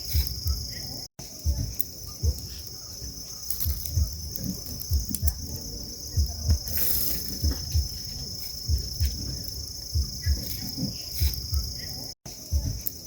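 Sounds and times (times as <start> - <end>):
insects chorus: 0.0 - 13.0
low thumps: 1.4 - 11.9.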